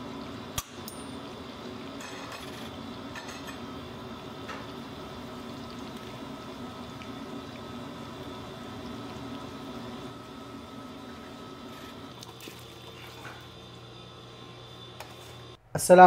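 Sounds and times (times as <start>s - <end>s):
pot simmering on stove: 0.0s - 15.6s.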